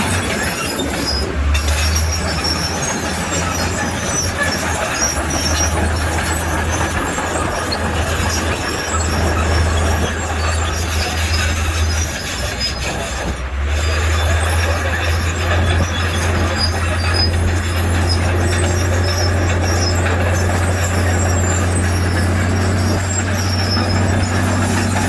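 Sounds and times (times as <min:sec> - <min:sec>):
diesel engine drone: 0:00.0 - 0:25.0
steel tracks squeaking: 0:00.0 - 0:25.0.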